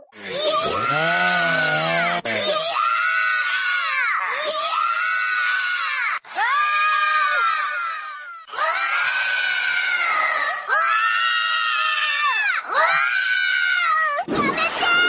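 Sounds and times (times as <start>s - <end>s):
high-pitched cartoon screams: 0.4s - 15.0s.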